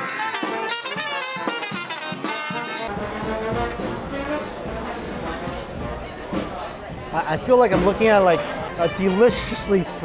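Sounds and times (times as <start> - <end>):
brass band playing jazz: 0.0 - 10.0.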